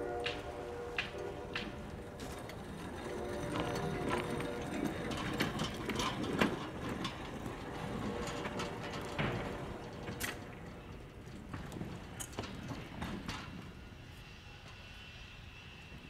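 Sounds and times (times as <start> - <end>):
train rolling along track: 0.0 - 16.0
wheels clicking and rattling: 0.0 - 16.0.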